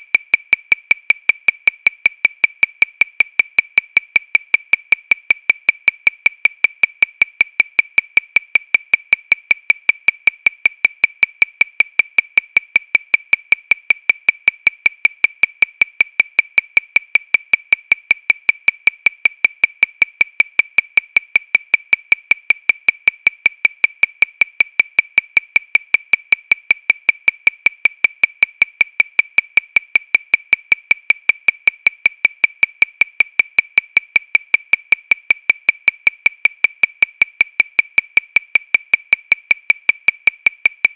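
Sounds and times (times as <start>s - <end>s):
metronome clicking: 0.0s - 40.9s.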